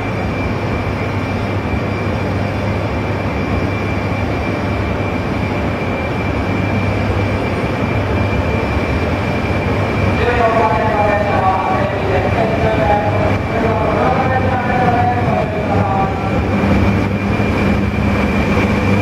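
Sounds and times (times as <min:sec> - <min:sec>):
electric train running noise: 0:00.0 - 0:19.0
low hum: 0:00.0 - 0:19.0.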